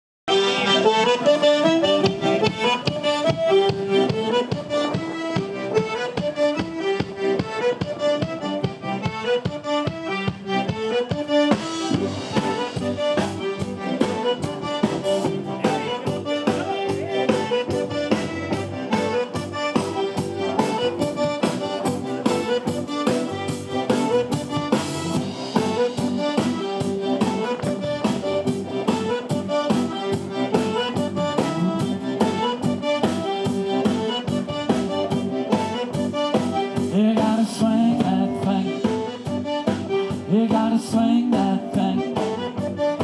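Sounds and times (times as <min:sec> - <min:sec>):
instrumental music with beat: 0:00.3 - 0:43.0.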